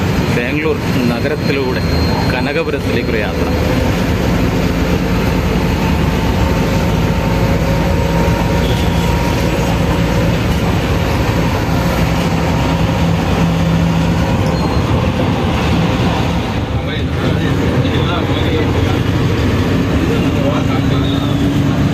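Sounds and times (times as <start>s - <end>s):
bus engine drone: 0.0s - 21.9s
road rumble: 0.0s - 21.9s.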